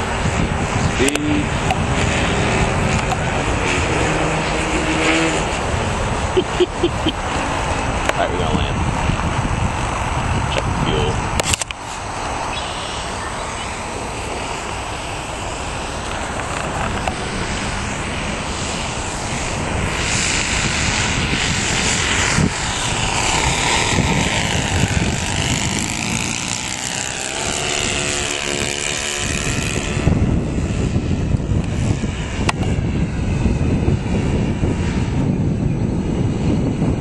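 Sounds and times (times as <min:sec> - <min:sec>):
model plane engines running: 0:00.0 - 0:37.0.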